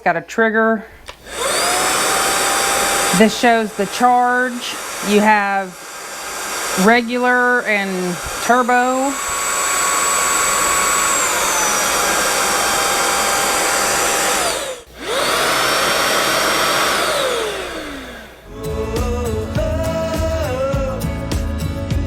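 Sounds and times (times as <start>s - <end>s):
vacuum motor whining: 1.0s - 20.8s.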